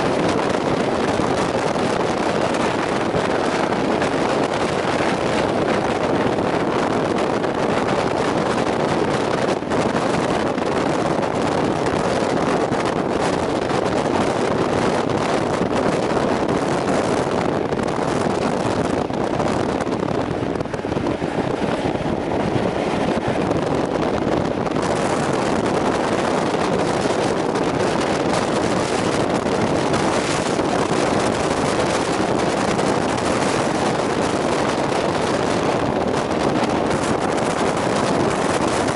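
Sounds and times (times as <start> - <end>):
train running at speed: 0.0 - 38.9
wind buffeting microphone: 0.0 - 38.9.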